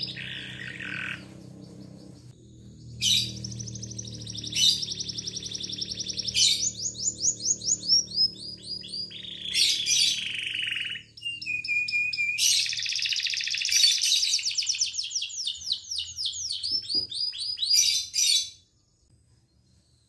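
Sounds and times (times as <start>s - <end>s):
canary singing with trills: 0.0s - 18.6s.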